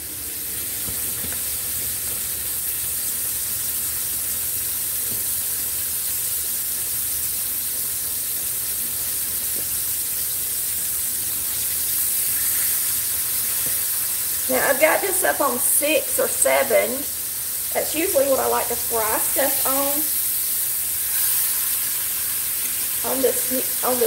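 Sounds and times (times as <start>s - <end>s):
pork chops sizzling in oil: 0.0s - 24.0s.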